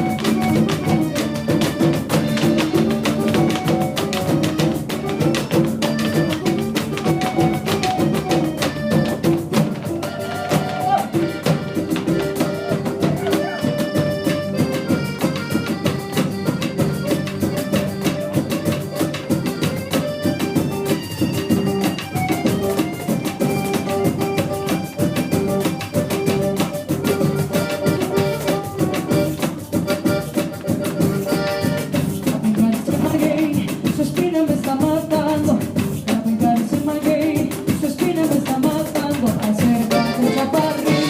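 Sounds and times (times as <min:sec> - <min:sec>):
drums and percussion: 0:00.0 - 0:41.0
live band playing latin music: 0:00.0 - 0:41.0.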